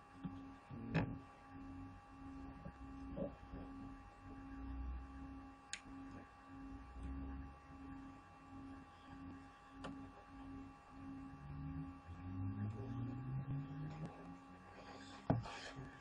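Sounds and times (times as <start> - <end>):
faint pulsing low tone: 0.2 - 16.0.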